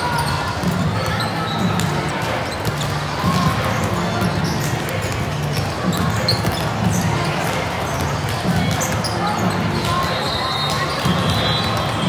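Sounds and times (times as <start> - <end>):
balls bouncing on court floor: 0.0 - 12.0
hubbub of many voices: 0.0 - 12.0.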